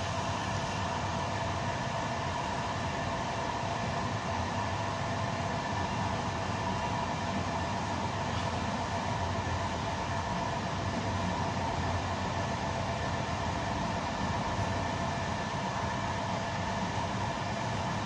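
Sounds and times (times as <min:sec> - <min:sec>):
steady humming tones: 0:00.0 - 0:18.0.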